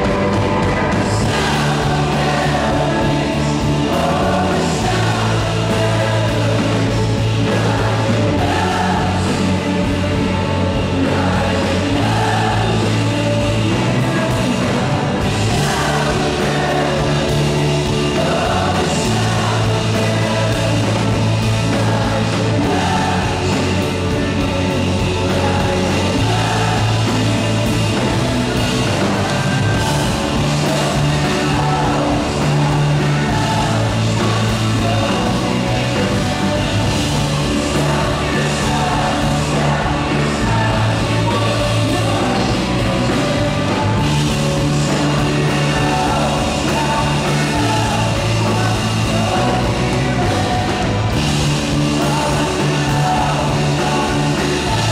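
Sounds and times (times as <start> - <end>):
lead voice singing: 0.0 - 54.9
rock band playing: 0.0 - 54.9.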